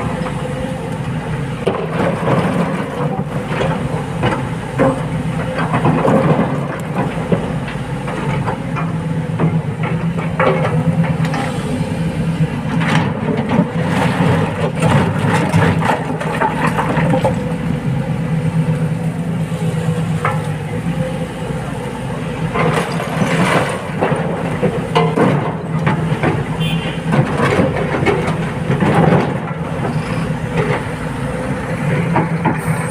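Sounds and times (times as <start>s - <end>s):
excavator diesel engine: 0.0s - 32.9s.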